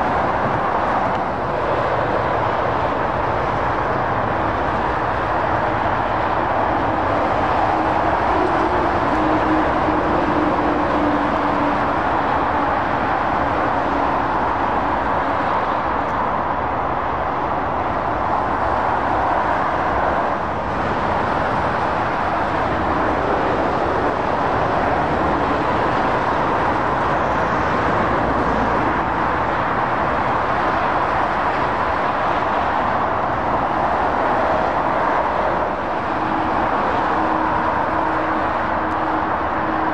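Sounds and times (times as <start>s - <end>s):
motorway traffic rushing: 0.0s - 39.9s.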